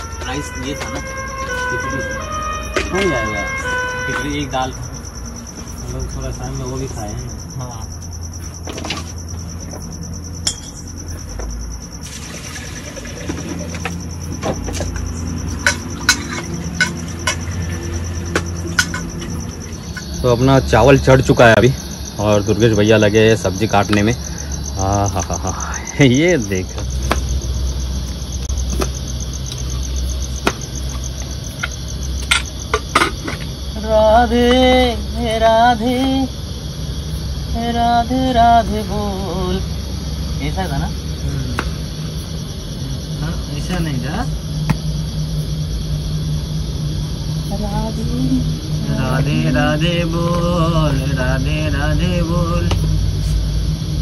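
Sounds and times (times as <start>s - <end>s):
cricket trilling: 0.0s - 54.0s.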